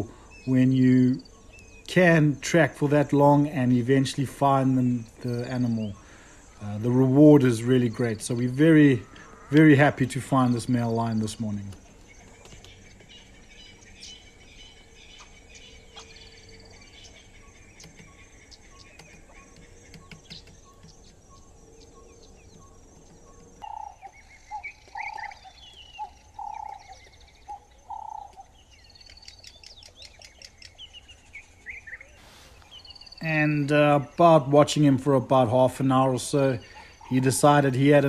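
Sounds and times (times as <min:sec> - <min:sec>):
birds chirping and twittering: 0:00.0 - 0:38.0.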